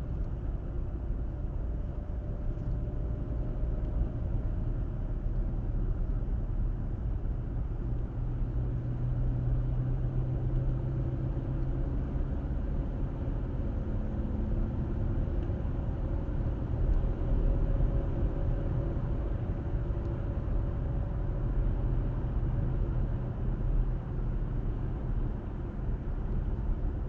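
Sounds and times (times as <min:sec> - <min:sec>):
car interior road rumble: 0:00.0 - 0:27.0.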